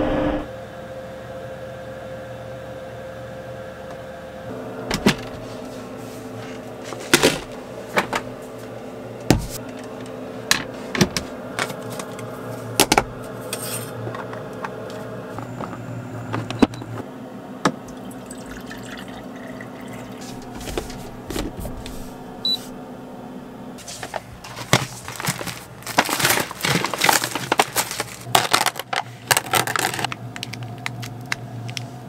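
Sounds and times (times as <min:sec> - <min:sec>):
steady low hum: 0:00.0 - 0:00.8, 0:02.5 - 0:32.0.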